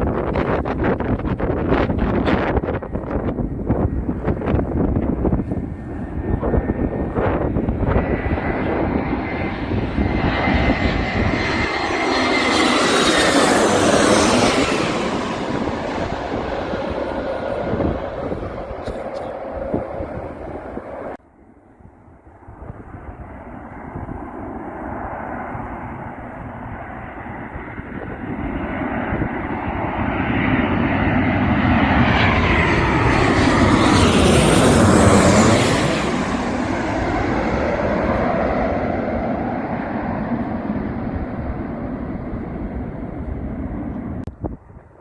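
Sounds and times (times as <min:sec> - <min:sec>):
jet airliner passing overhead: 0:00.0 - 0:45.0.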